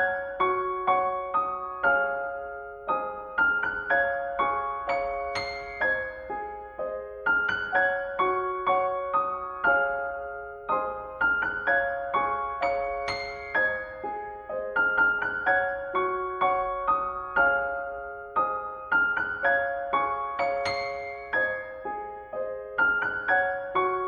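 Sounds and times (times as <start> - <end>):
soft slow piano music: 0.0 - 24.0.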